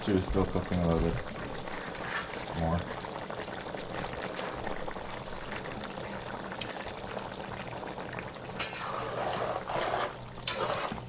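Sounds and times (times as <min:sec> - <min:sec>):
food sizzling and crackling: 0:00.0 - 0:11.0.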